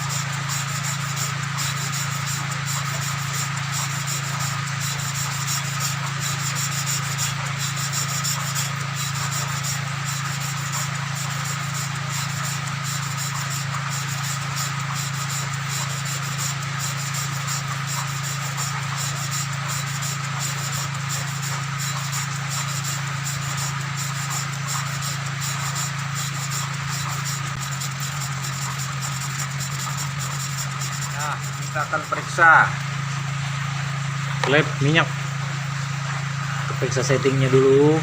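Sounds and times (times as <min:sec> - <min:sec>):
valve rubbing on seat: 0:00.0 - 0:35.0
constant low hum: 0:00.0 - 0:38.0.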